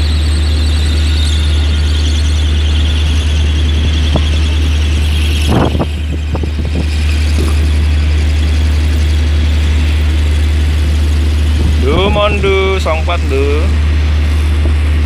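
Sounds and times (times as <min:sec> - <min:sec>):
ship machinery drone: 0:00.0 - 0:15.0.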